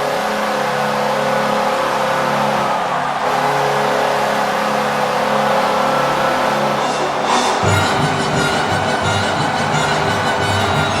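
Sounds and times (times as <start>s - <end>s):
arena goal horn: 0.0s - 11.0s
crowd cheering: 0.0s - 11.0s.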